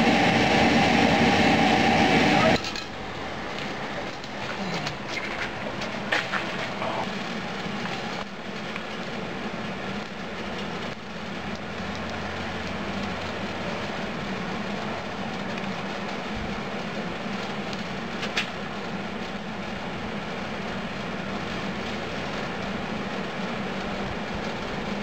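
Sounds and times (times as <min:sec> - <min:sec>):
furnace roaring: 0:00.0 - 0:25.0.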